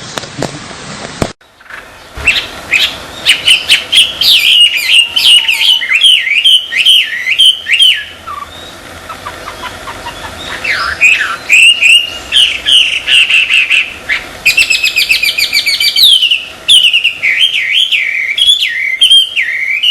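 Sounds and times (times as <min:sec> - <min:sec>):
songbird whistling: 0:01.7 - 0:19.9.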